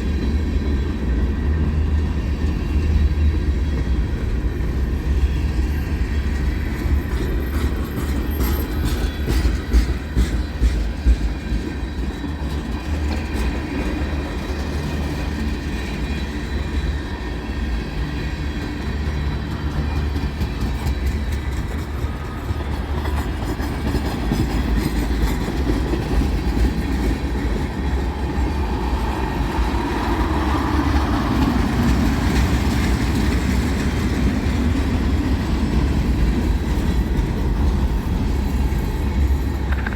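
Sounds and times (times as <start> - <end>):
clickety-clack of wheels: 0.0 - 39.9
train wheel rumble on rails: 0.0 - 39.9.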